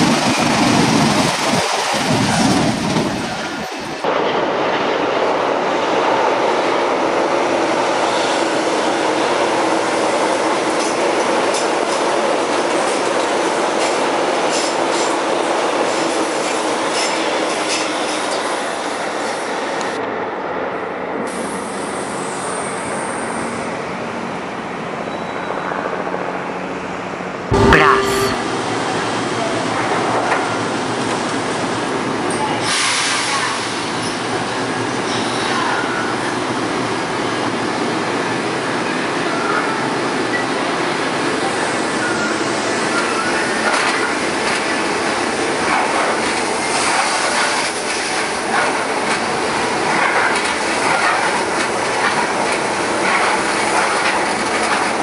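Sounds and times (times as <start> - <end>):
metro train rumbling on track: 0.0 - 55.0.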